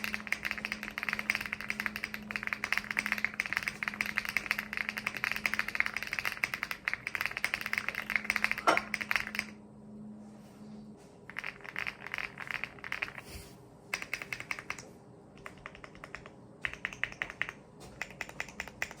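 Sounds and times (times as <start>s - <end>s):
mechanical keyboard typing: 0.0s - 9.5s, 11.3s - 13.2s, 13.9s - 19.0s.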